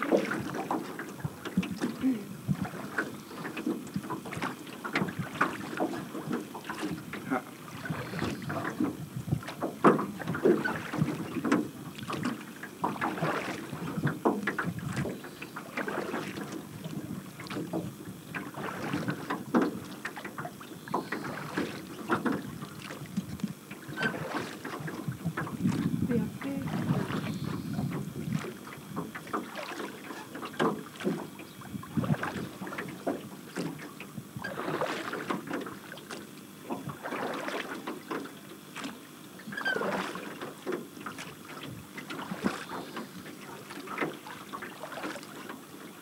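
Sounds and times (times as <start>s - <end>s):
hull knocking and splashing: 0.0s - 45.6s
water and wind noise: 0.0s - 46.0s.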